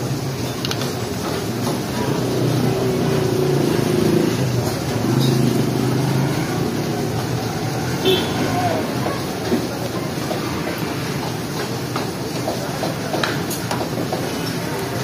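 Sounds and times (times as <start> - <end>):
traffic rumble: 0.0 - 15.0
people talking: 0.6 - 15.0.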